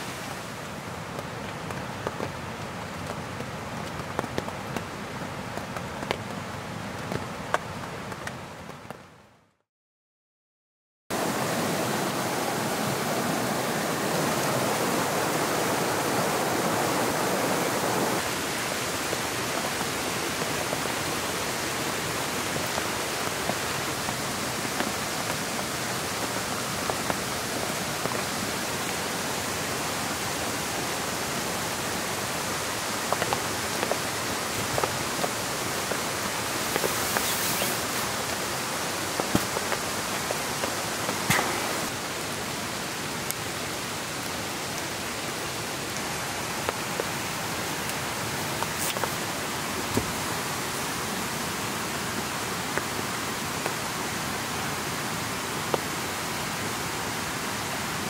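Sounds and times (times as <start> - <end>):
water rushing: 0.0 - 8.4, 11.1 - 58.0.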